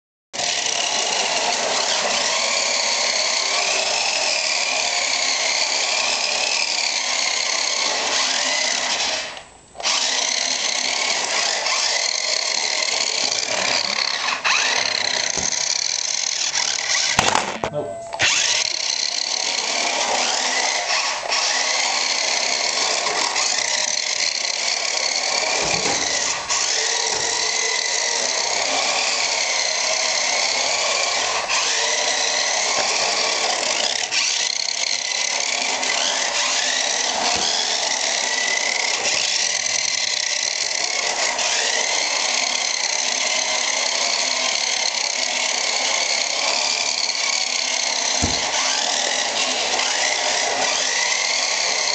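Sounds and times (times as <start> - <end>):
toy car electric motor whining: 0.4 - 51.9.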